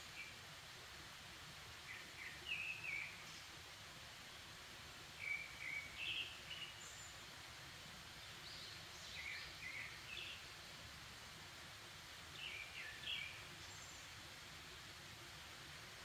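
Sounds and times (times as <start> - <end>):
faint forest background: 0.0 - 16.0.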